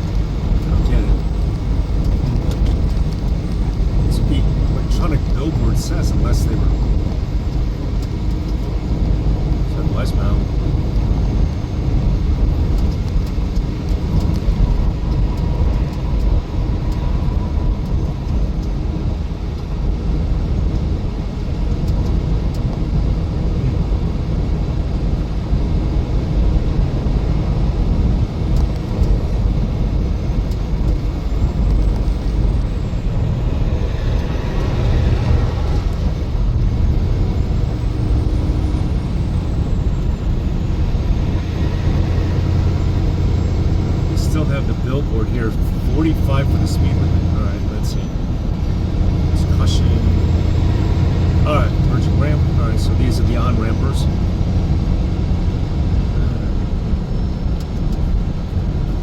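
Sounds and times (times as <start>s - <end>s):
road and engine noise in vehicle: 0.0s - 59.0s.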